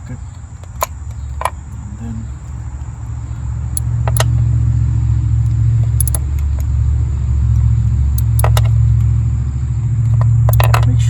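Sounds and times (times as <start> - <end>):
steady low hum: 0.0 - 11.0
ratchet clicking: 0.2 - 1.8, 2.4 - 4.7, 5.4 - 11.0.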